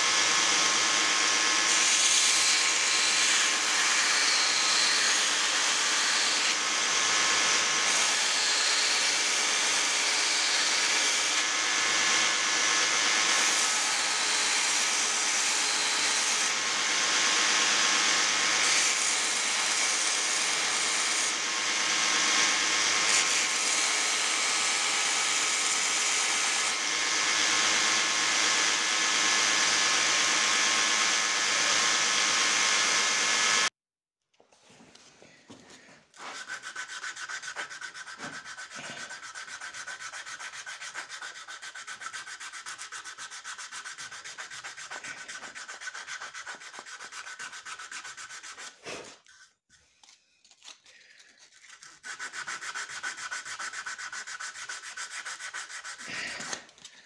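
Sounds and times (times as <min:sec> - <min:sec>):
belt grinder sanding wood: 0:00.1 - 0:33.7, 0:36.2 - 0:49.6, 0:51.4 - 0:56.7.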